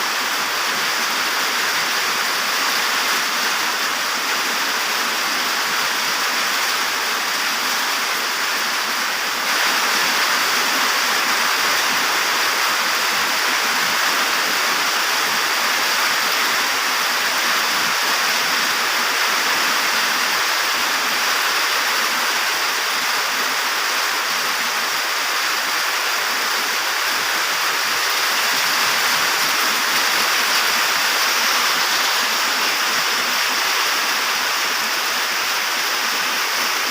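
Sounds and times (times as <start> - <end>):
light rain: 0.0 - 36.9.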